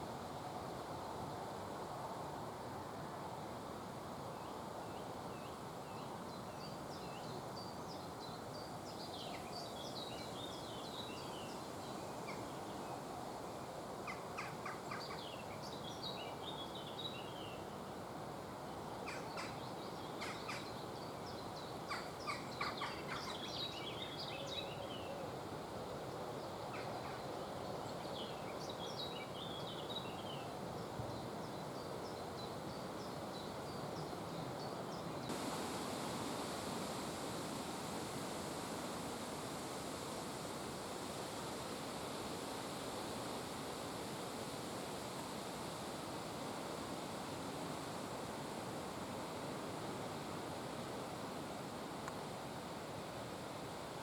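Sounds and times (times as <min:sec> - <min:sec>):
background hiss: 0:00.0 - 0:54.0.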